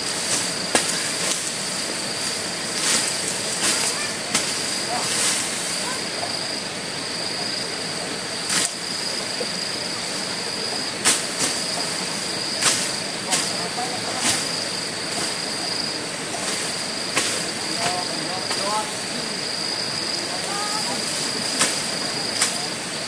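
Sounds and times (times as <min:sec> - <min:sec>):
constant hiss: 0:00.0 - 0:23.0.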